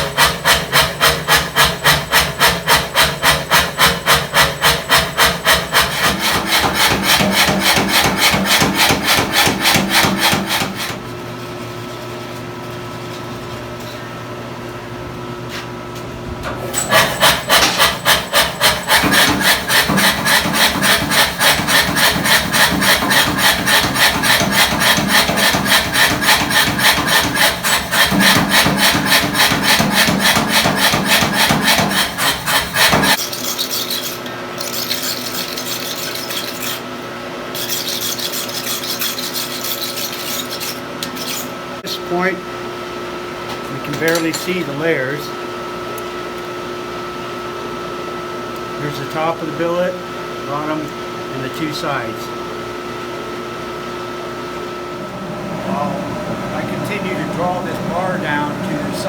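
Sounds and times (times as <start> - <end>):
machine hum: 0.0 - 46.1, 52.1 - 59.0.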